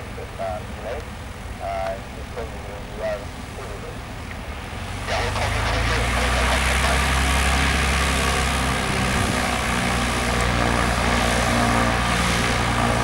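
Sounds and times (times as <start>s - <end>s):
propeller plane engine running: 0.0s - 13.0s.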